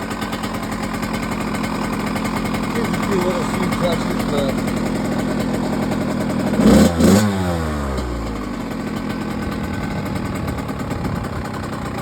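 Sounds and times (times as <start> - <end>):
two-stroke motorcycle engine idling: 0.0 - 12.0.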